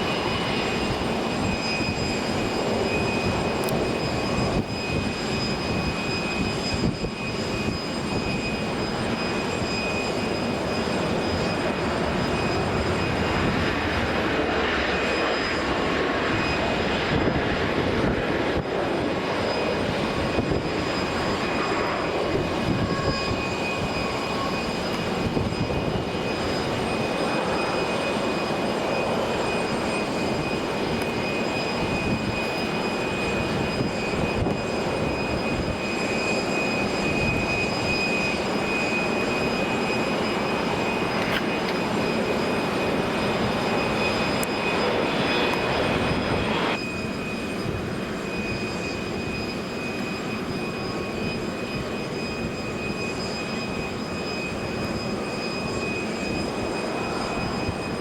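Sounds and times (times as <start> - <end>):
jet engines rushing with whine: 0.0 - 58.0.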